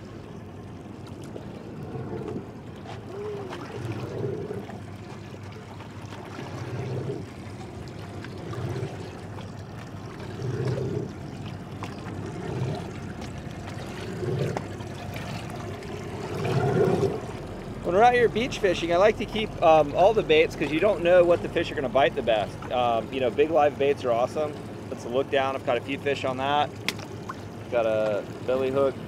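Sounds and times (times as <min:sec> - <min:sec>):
small waves lapping against hull: 0:00.0 - 0:29.0.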